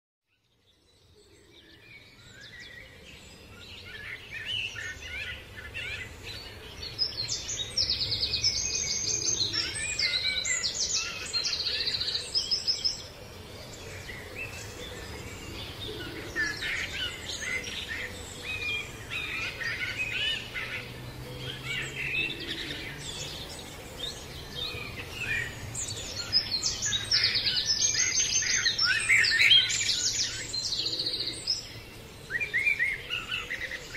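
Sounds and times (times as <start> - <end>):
songbirds singing and chirping: 0.2 - 33.9.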